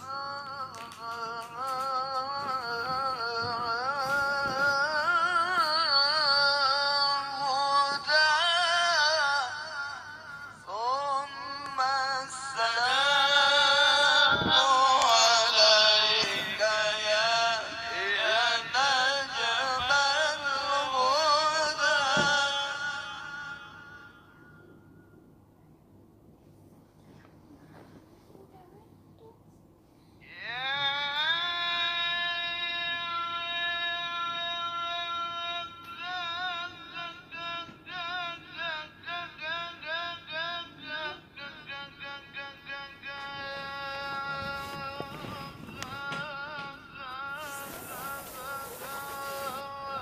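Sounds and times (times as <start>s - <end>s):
man chanting through a microphone: 0.0s - 24.5s, 30.2s - 50.0s.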